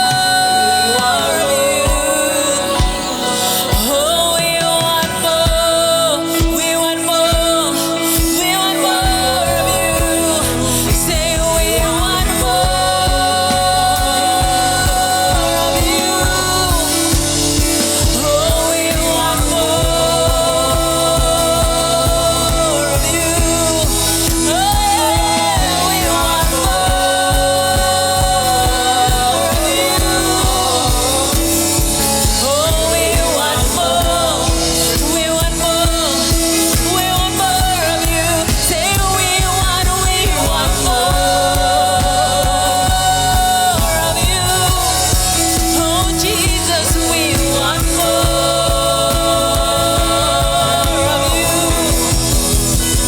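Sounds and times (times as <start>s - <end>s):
band with steady beat: 0.0s - 53.0s
person singing long sliding notes: 0.0s - 53.0s.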